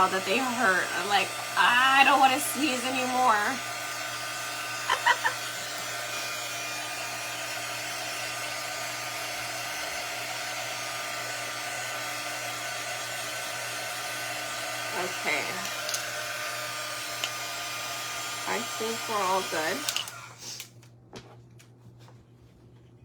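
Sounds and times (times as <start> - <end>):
electric blower whirring: 0.0 - 20.7.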